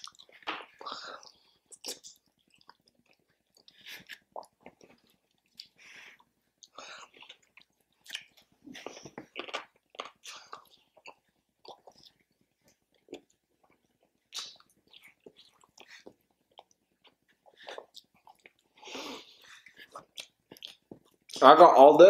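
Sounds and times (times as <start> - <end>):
person chewing food: 0.0 - 21.4.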